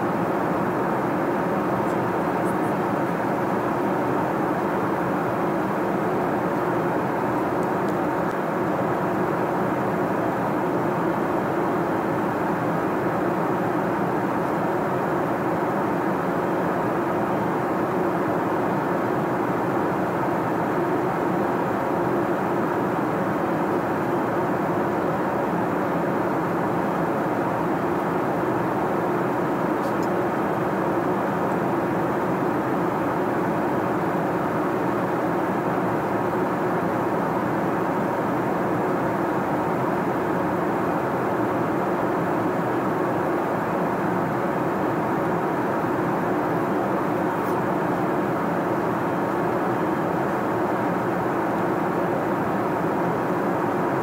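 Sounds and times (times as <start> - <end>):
airliner cabin noise: 0.0 - 54.0
faint steady hums: 0.0 - 54.0.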